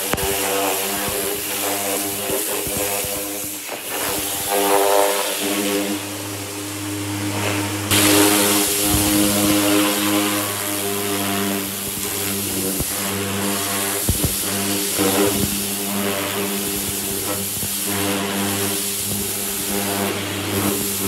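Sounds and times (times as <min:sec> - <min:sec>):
pressure washer motor hum: 0:00.0 - 0:21.0
water jet hissing on metal: 0:00.0 - 0:21.0.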